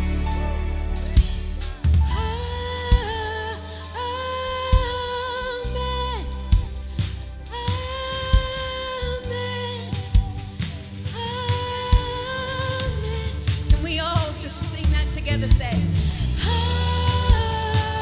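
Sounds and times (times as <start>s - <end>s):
live band playing: 0.0s - 18.0s
woman singing into microphone: 2.1s - 18.0s.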